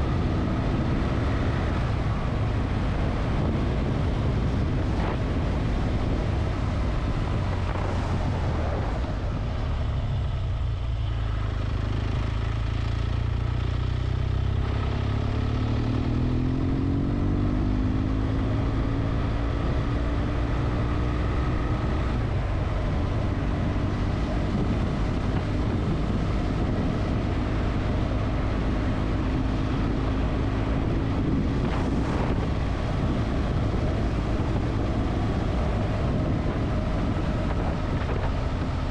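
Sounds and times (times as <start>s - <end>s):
wind on microphone: 0.0s - 10.0s, 14.4s - 38.9s
motorcycle engine running: 0.0s - 38.9s.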